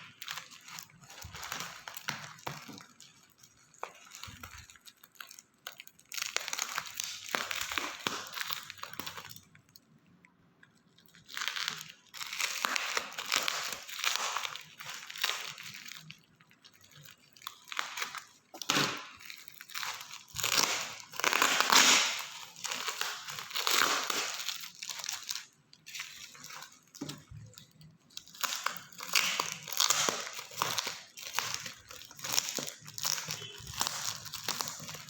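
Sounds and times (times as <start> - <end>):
packaging crinkling and tearing: 0.0 - 9.9, 10.7 - 35.0.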